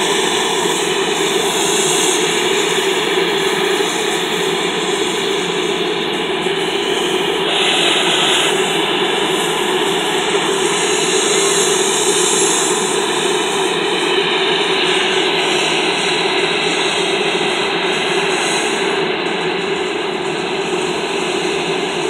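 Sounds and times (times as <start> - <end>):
helicopter engines and rotors: 0.0 - 22.0.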